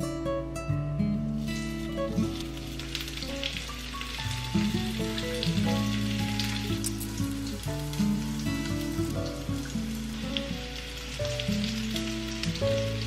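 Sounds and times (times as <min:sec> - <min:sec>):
soft background music: 0:00.0 - 0:13.0
tofu sizzling in hot oil: 0:01.2 - 0:13.0.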